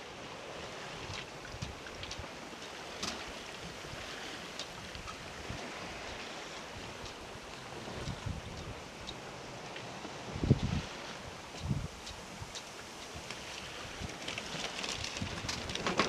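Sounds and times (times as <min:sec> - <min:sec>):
water rushing along hull: 0:00.0 - 0:16.0
wind buffeting microphone: 0:00.0 - 0:16.0
faint ticks: 0:01.1 - 0:03.5, 0:04.3 - 0:15.8.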